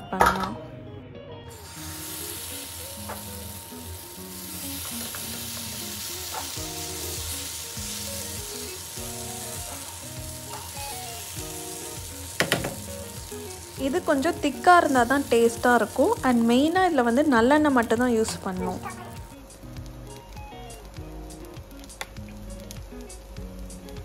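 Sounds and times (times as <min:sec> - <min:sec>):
soft background music: 0:00.0 - 0:24.0
batter sizzling on hot griddle: 0:01.5 - 0:24.0.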